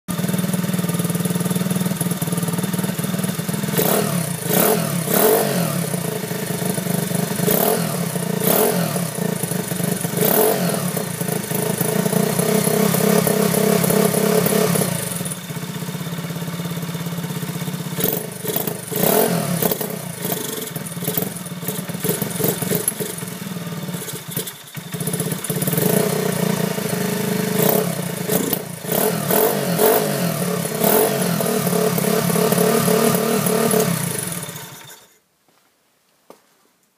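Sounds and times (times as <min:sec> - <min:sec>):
motorcycle engine idling: 0:00.1 - 0:35.2.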